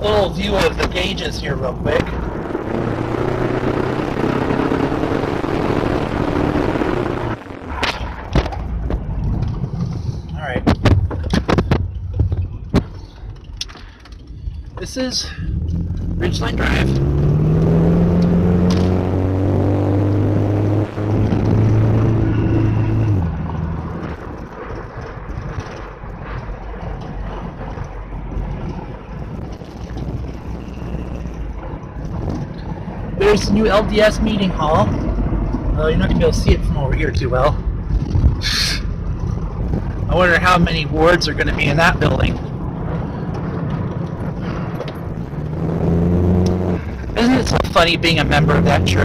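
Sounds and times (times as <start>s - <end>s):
car engine running: 0.0s - 49.0s
road and tyre noise: 0.0s - 49.0s.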